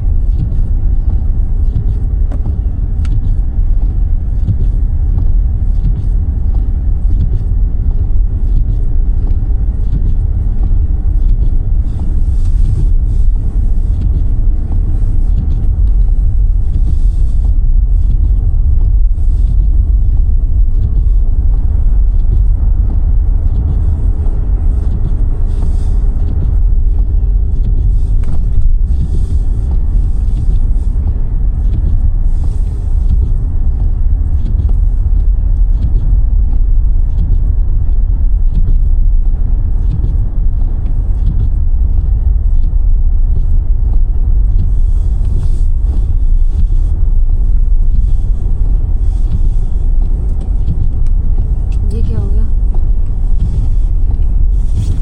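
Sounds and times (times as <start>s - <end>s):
car engine and road noise rumble: 0.0s - 55.0s.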